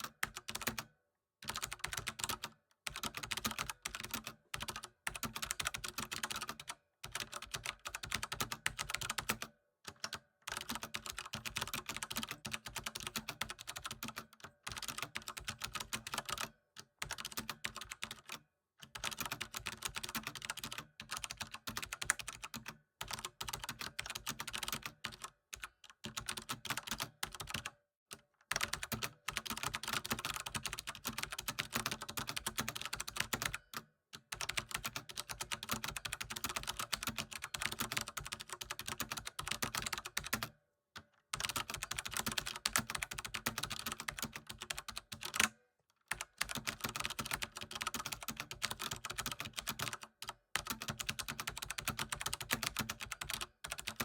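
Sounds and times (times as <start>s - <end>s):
fast typing on keyboard: 0.0s - 27.8s, 28.5s - 45.5s, 46.1s - 54.0s.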